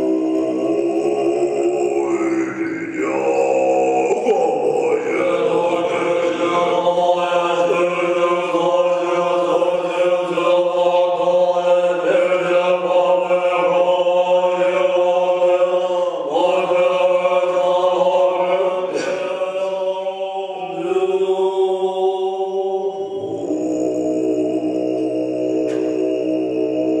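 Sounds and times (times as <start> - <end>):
monks chanting in deep drone: 0.0 - 27.0.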